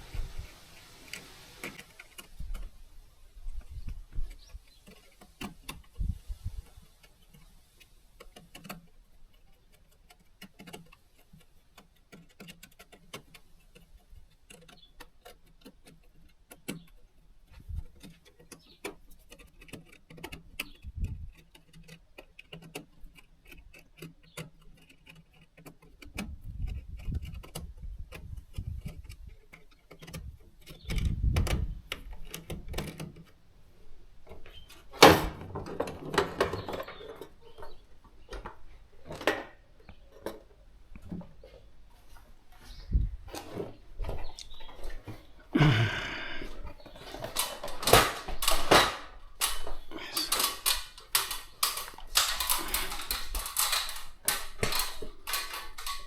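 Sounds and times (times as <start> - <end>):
sharp clicks and light knocks: 0.8 - 56.0.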